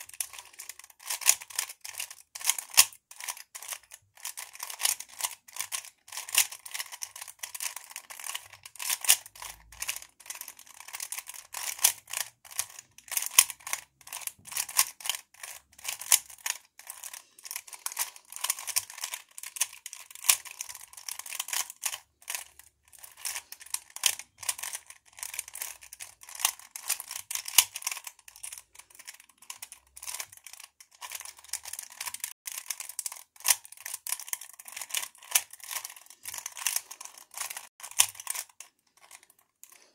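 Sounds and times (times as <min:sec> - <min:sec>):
puzzle cube clicking: 0:00.1 - 0:39.4.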